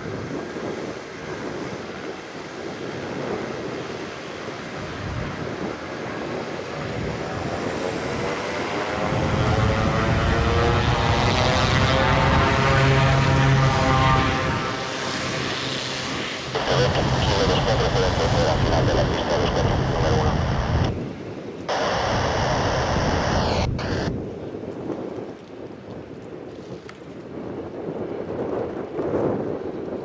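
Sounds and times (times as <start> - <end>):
turboprop engines running: 0.1 - 24.1.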